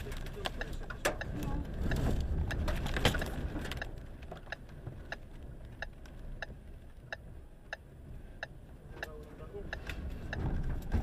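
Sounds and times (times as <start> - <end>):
steady ticking: 0.0 - 10.5
wind gusts buffeting a car: 0.0 - 11.0.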